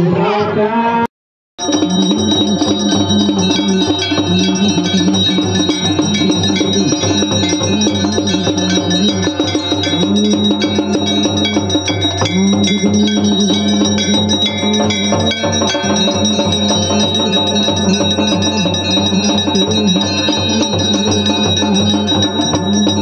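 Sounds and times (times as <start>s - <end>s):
brass bells ringing: 1.6s - 23.0s.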